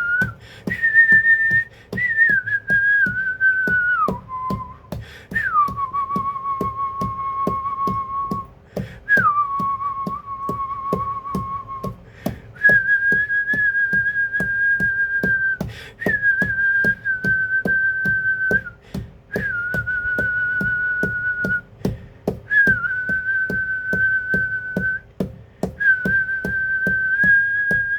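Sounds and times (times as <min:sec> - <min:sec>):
steady rhythmic click: 0:00.0 - 0:27.9.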